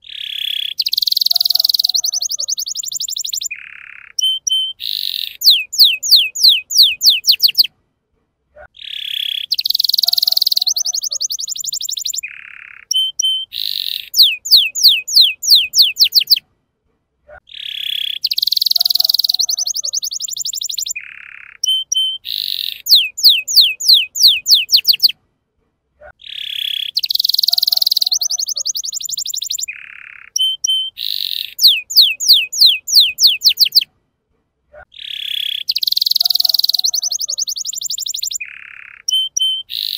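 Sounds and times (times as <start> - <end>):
canary singing: 0.0 - 7.7, 8.8 - 16.4, 17.4 - 25.2, 26.1 - 33.9, 34.9 - 39.9.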